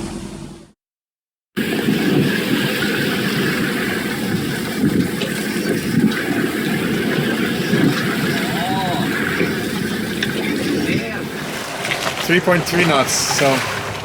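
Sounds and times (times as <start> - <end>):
water rushing: 1.6 - 14.0
wind: 1.6 - 14.0.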